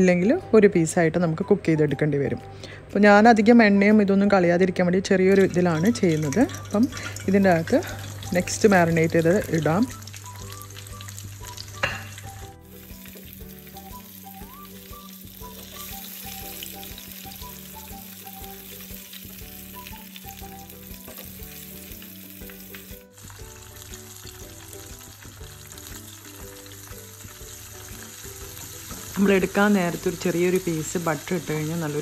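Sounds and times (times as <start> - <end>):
chicken deep-frying in oil: 5.4 - 32.0.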